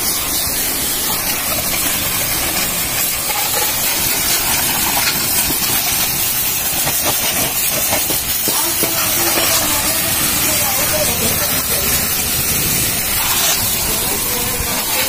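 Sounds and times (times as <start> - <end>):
high-pressure water spray hissing: 0.0 - 15.0.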